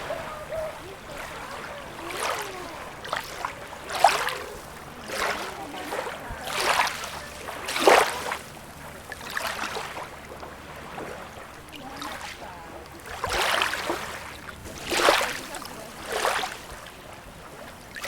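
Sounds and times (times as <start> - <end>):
small waves lapping and splashing: 0.0 - 18.0.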